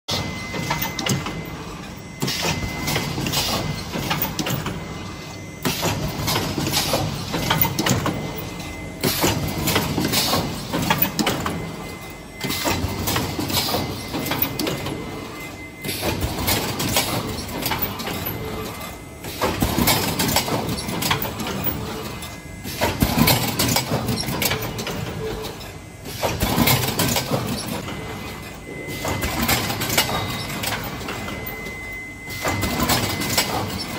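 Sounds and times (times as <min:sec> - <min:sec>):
machine mechanical clatter: 0:00.1 - 0:33.9.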